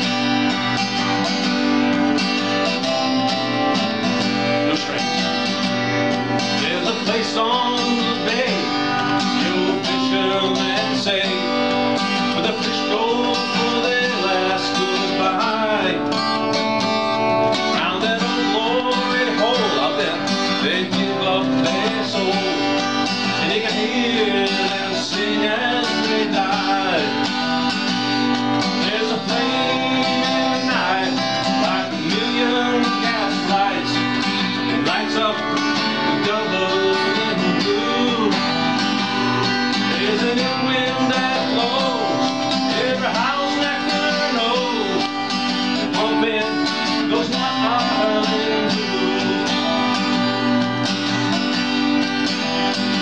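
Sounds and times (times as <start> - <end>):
acoustic guitar strumming: 0.0 - 53.0
man singing blues: 0.0 - 53.0.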